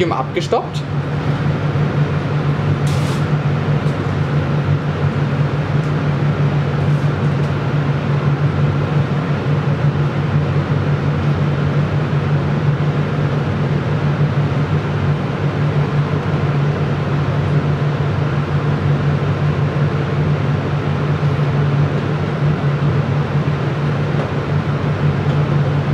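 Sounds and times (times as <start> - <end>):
blower fan whirring hum: 0.0 - 25.9.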